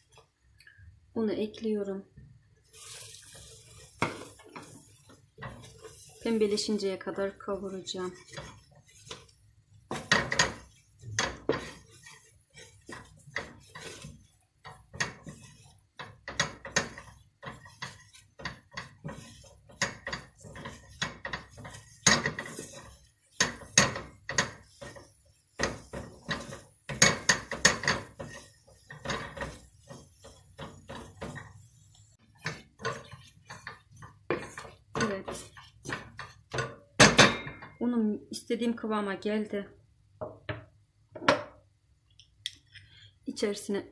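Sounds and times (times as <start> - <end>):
wooden spoon scraping a pot: 2.6 - 38.5.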